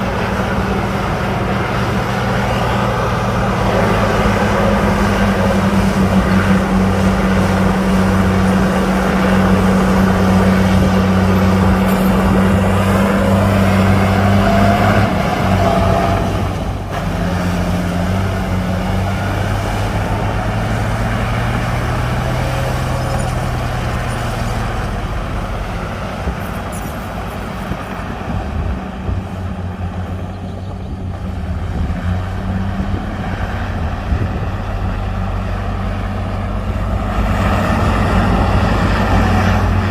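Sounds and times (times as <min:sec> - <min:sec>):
diesel machinery engine droning: 0:00.0 - 0:39.9.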